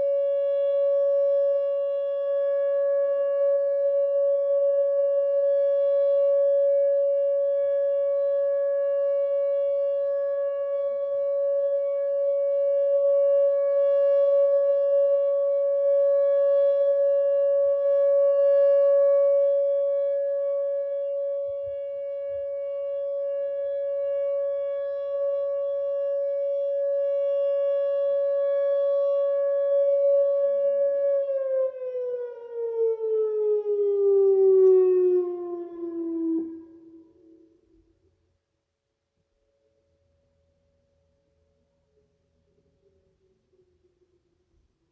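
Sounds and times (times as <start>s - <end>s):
electronic warning siren: 0.0s - 38.0s.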